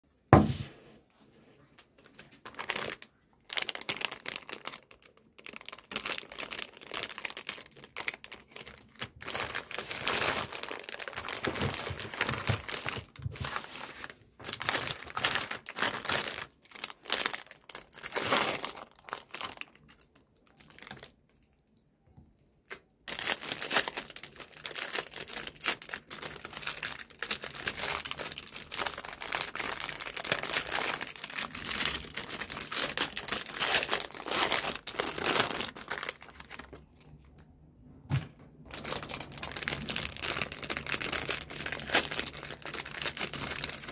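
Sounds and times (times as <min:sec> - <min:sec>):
plastic wrappers crinkling: 0:01.6 - 0:21.6, 0:22.7 - 0:37.4, 0:38.7 - 0:43.9.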